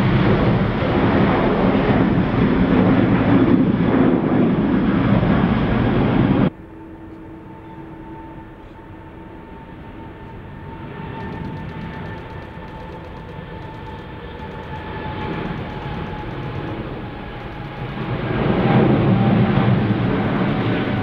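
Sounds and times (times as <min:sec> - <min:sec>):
jet engine whine over rumble: 0:00.0 - 0:21.0
jet engines roaring at takeoff: 0:00.0 - 0:21.0.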